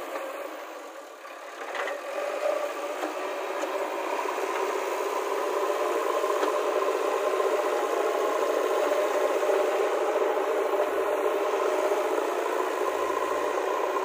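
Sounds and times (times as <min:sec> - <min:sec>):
backhoe diesel engine under load: 0:00.0 - 0:14.0.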